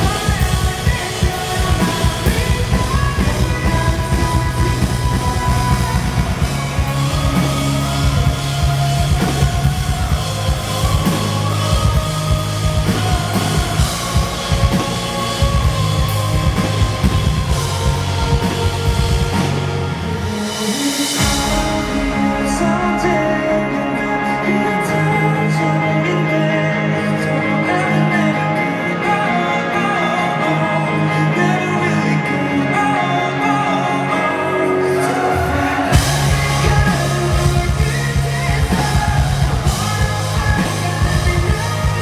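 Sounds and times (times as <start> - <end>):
rock band playing: 0.0 - 42.0.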